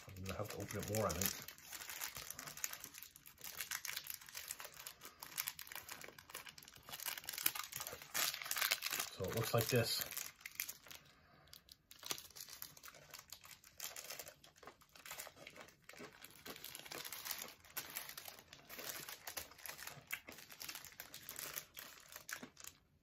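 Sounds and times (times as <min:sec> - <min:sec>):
candy wrapper crinkling: 0:00.0 - 0:23.0.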